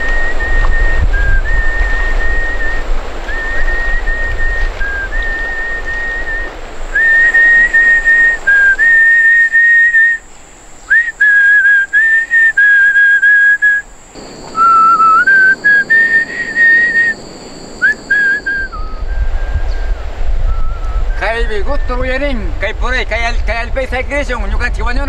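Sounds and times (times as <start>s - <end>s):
person whistling a slow tune: 0.0s - 10.2s, 10.9s - 13.9s, 14.5s - 22.0s.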